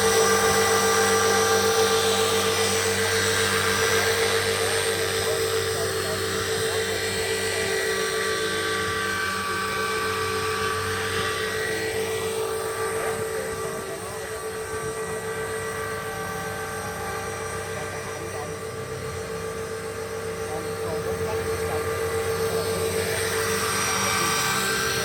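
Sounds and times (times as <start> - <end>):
rc helicopter whine: 0.0 - 25.0.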